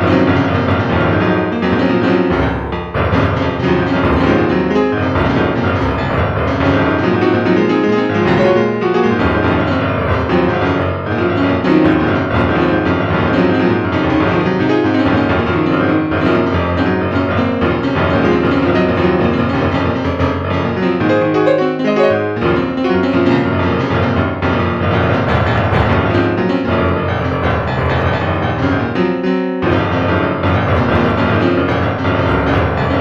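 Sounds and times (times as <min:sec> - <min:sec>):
piano background music: 0:00.0 - 0:33.0.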